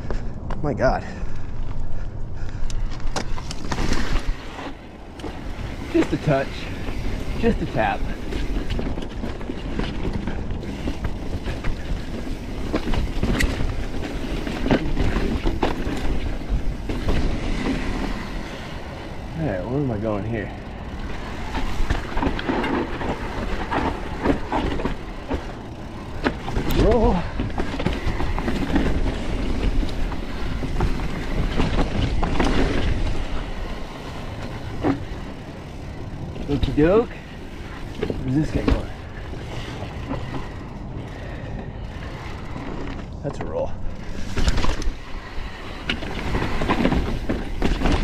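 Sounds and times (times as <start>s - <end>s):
bike clicks and rattles: 0.0s - 48.0s
tyres rumbling on dirt and rock: 0.0s - 48.0s.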